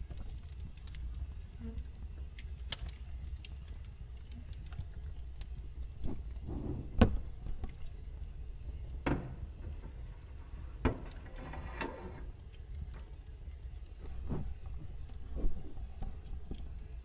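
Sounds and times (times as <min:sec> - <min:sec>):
fire popping: 0:00.0 - 0:17.0
low steady rumble: 0:00.0 - 0:17.0
wood fire crackling: 0:00.0 - 0:17.0.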